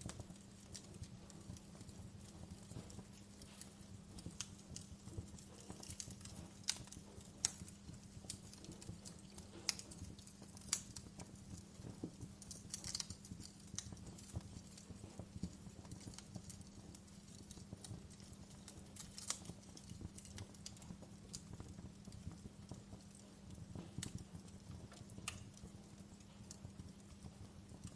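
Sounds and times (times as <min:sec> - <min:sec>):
low steady background noise: 0:00.0 - 0:27.9
wood fire crackling: 0:00.0 - 0:27.9.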